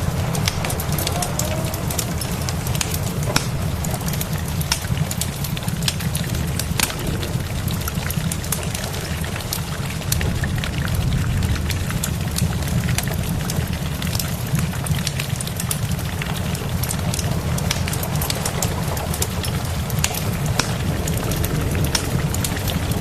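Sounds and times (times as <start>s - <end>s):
deep low rumble: 0.0s - 15.0s, 16.0s - 23.0s
steady rain: 0.0s - 23.0s
wood fire crackling: 0.0s - 23.0s.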